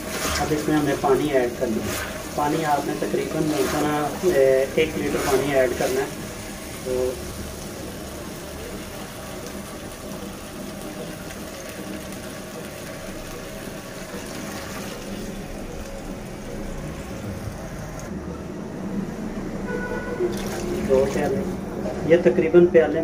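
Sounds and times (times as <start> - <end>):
water pouring into pot: 0.0 - 18.1, 20.2 - 21.6.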